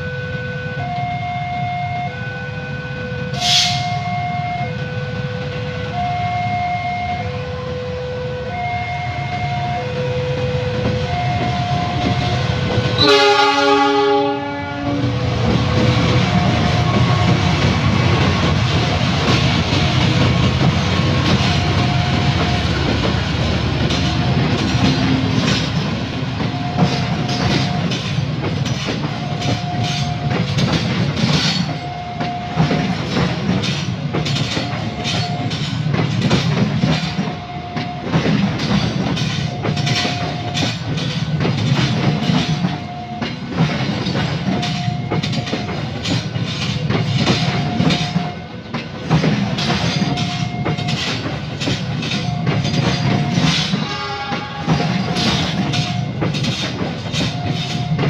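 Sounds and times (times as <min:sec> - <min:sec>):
level crossing warning tone: 0:00.0 - 0:35.8, 0:36.8 - 0:48.9, 0:49.5 - 0:58.0
diesel locomotive passing: 0:00.0 - 0:58.0
train wheels clickety-clack: 0:03.3 - 0:06.2, 0:09.6 - 0:58.0.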